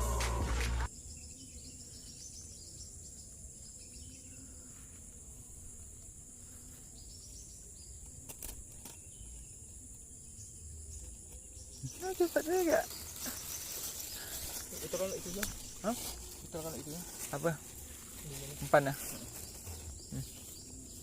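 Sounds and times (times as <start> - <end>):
high insect chorus: 0.0 - 21.0.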